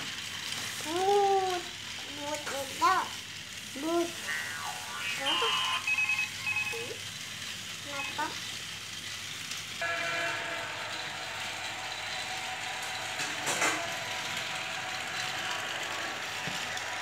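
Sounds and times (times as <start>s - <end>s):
toy train motor whirring: 0.0s - 17.0s
toy train rattle: 0.0s - 17.0s.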